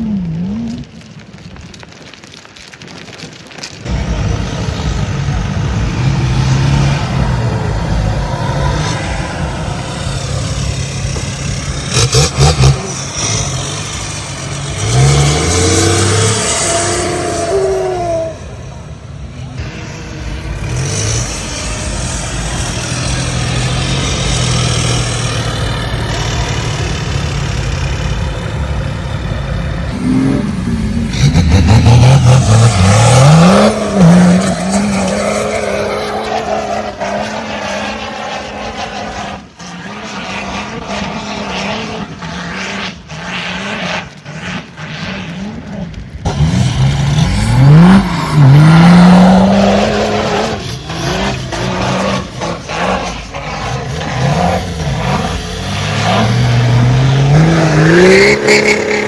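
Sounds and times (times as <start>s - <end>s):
off-road vehicle engine revving: 3.9s - 59.0s.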